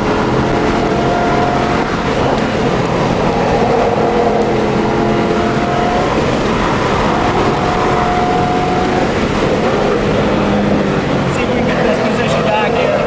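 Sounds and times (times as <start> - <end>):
car engine revving: 0.0 - 13.0
wind and road noise: 0.0 - 13.0.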